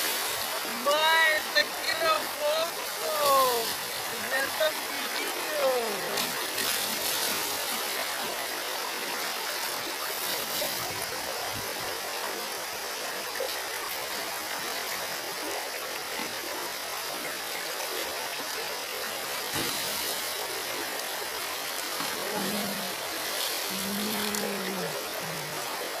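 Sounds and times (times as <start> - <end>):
river water rushing over stones: 0.0 - 26.0
water splashing: 0.0 - 26.0.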